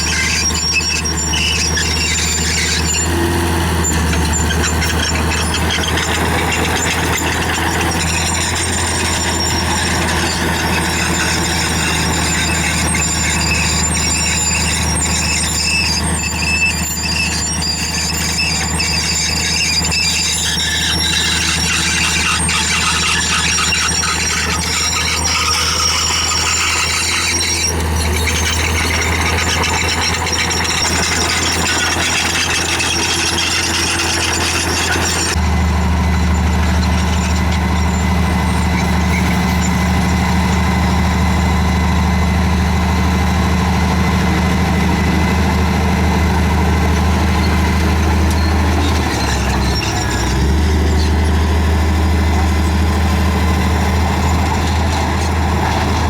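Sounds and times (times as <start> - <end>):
diesel engine running: 0.0 - 56.0
metal tracks squealing: 0.0 - 56.0.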